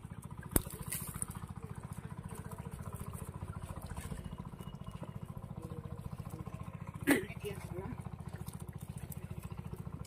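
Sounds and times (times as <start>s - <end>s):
engine chugging steadily: 0.0s - 10.0s.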